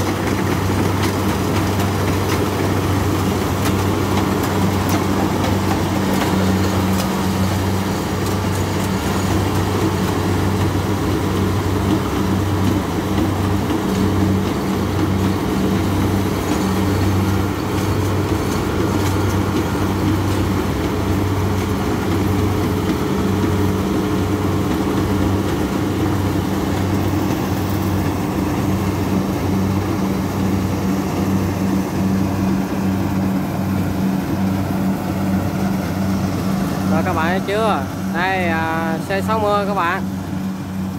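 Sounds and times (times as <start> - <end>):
diesel engine drone: 0.0 - 40.9
harvesting machinery clatter: 0.0 - 40.9.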